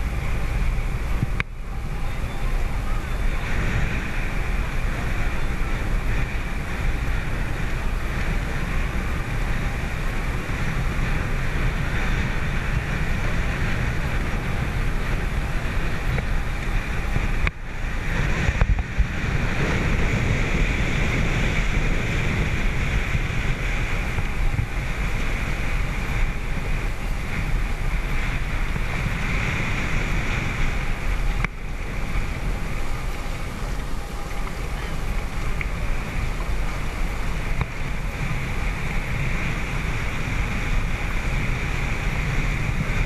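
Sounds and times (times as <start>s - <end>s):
water rushing past hull: 0.0s - 43.0s
wind buffeting microphone: 0.0s - 43.0s.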